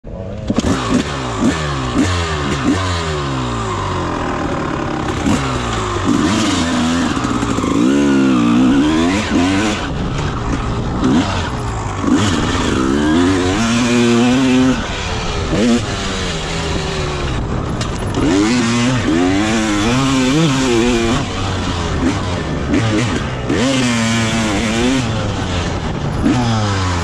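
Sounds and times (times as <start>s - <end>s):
motorcycle engines revving: 0.0s - 27.0s
motorcycle accelerating away: 0.1s - 27.0s.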